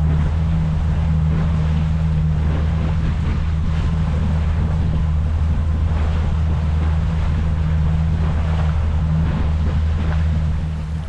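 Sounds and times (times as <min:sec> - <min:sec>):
low engine hum: 0:00.0 - 0:11.0
water rushing along hull: 0:00.0 - 0:11.0
wind buffeting microphone: 0:00.0 - 0:11.0.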